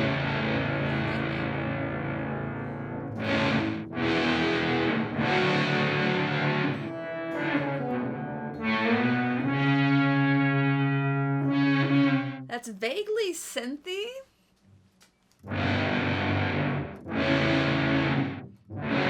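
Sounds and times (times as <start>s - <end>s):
electric guitar chords with delay: 0.0s - 12.5s, 15.4s - 19.0s.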